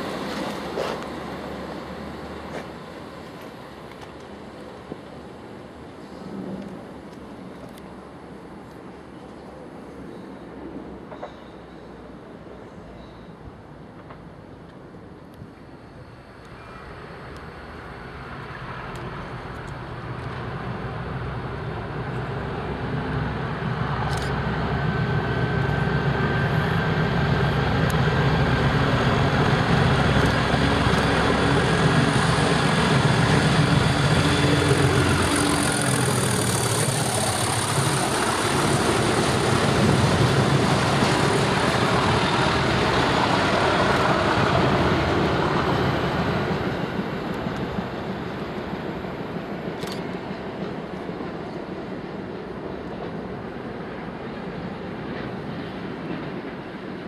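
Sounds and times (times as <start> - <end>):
diesel locomotive engines passing: 0.0 - 57.0.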